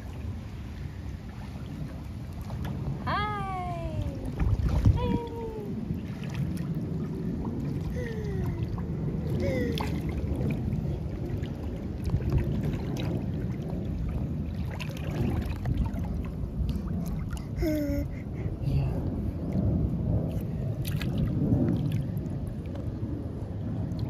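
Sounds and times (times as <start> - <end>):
pool water sloshing and lapping: 0.0 - 24.0
steady low rumble: 0.0 - 24.0.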